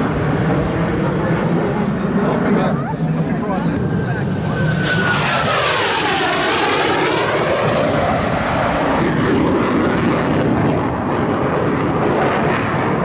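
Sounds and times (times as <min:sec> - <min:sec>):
fighter jets flying by: 0:00.0 - 0:13.0.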